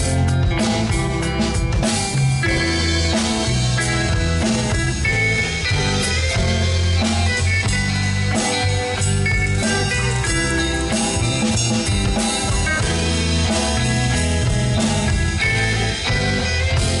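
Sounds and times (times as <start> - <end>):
bass guitar: 0.0 - 17.0
drum kit: 0.0 - 17.0
electric guitars: 0.0 - 17.0.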